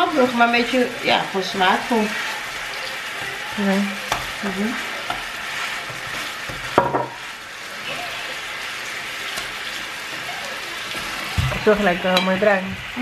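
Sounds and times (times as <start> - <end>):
burgers sizzling in a frying pan: 0.0 - 13.0
utensil stirring in pan: 0.0 - 13.0.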